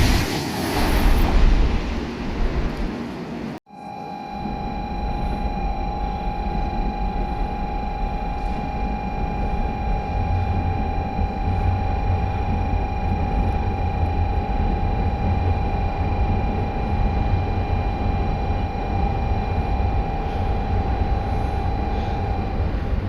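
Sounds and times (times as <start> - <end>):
steady high tone: 3.7 - 23.0
train low rumble: 4.2 - 23.0.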